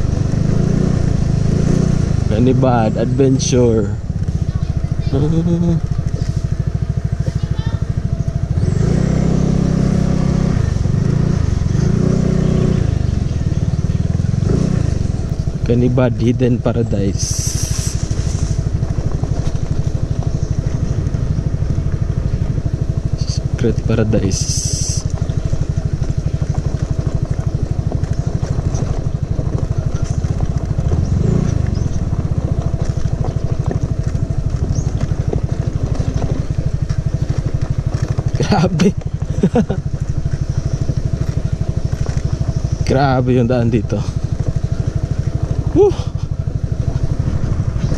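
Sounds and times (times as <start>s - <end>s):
scooter engine running: 0.0s - 47.9s.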